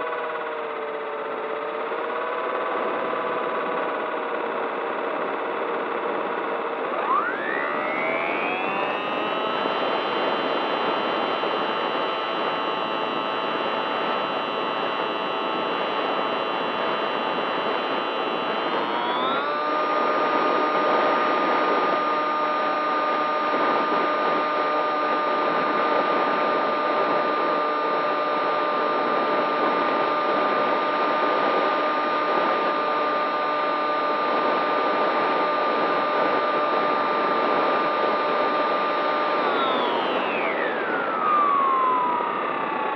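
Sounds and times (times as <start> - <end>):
model aircraft motor whining: 0.0 - 42.9.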